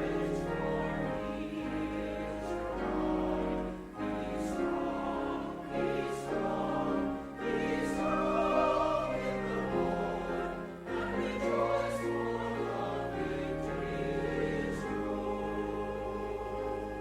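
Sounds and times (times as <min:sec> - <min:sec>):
church choir singing: 0:00.0 - 0:17.0.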